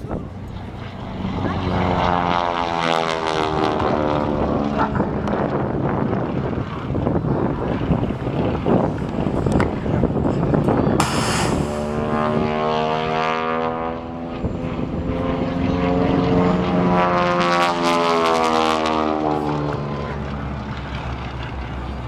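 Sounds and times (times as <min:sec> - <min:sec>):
propeller airplane engine droning: 0:00.0 - 0:22.0.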